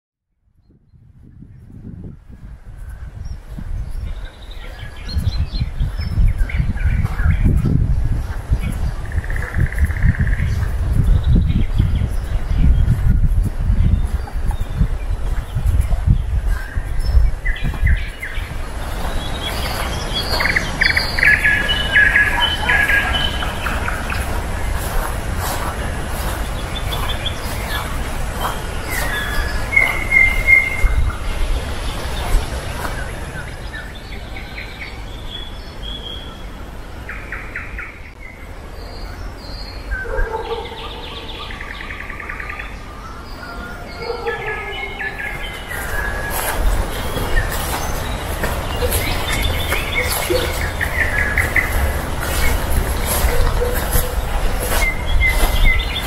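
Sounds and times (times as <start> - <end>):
songbirds chirping and singing: 0.6 - 56.0
steady low rumble: 0.7 - 34.8, 44.8 - 56.0.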